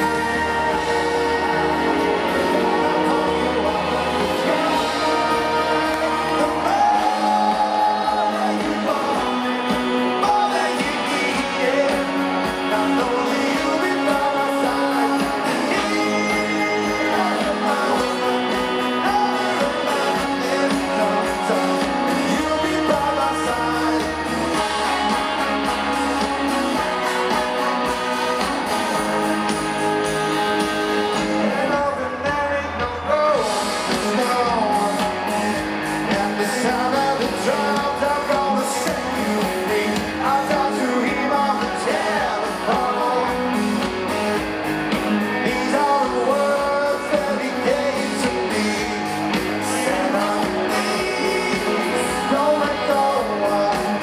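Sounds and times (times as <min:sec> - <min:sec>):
crowd singing along faintly: 0:00.0 - 0:54.0
live rock band playing: 0:00.0 - 0:54.0.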